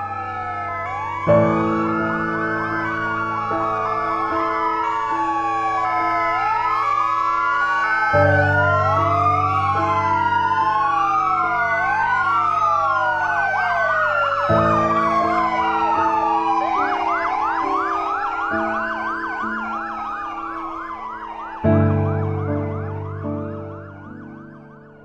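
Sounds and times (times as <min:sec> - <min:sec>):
sirens wailing: 0:00.0 - 0:25.0
yelping siren: 0:00.0 - 0:25.0.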